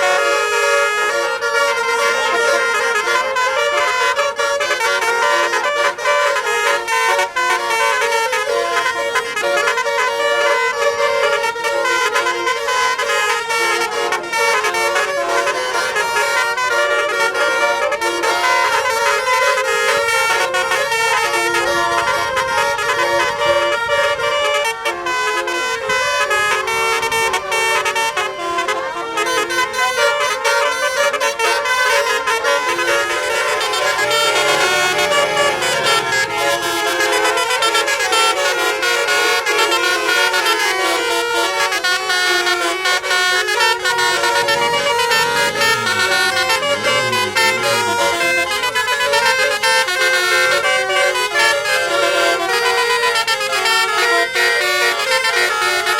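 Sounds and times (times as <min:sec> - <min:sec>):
multi-tone bus horn tune: 0:00.0 - 0:55.9.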